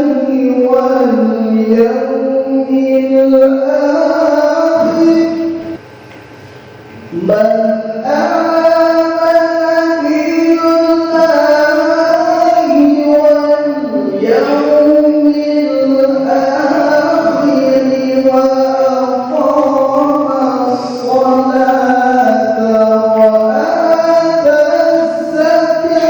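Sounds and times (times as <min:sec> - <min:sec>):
man reciting melodically: 0:00.0 - 0:05.8, 0:07.0 - 0:26.0.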